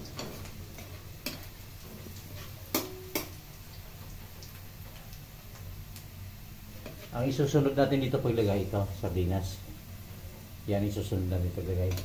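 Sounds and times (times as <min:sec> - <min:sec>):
garlic and onion sauteing in oil: 0:00.0 - 0:12.0.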